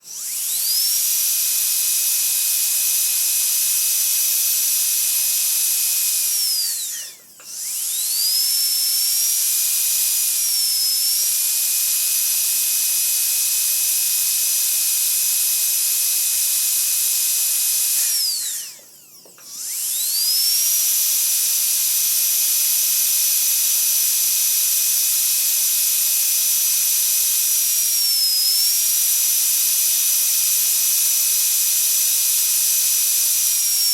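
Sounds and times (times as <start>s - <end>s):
dentist's drill whining: 0.0s - 33.9s.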